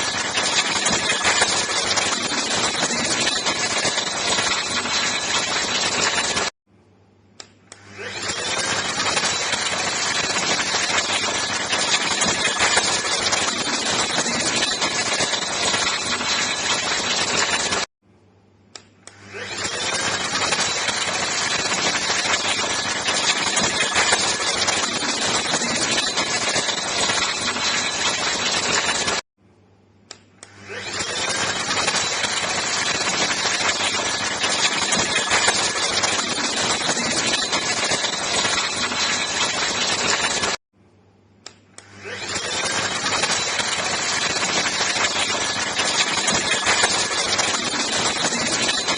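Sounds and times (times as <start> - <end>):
handheld vacuum cleaner whining: 0.0 - 6.5, 7.7 - 17.9, 19.1 - 29.2, 30.4 - 40.6, 41.8 - 48.9.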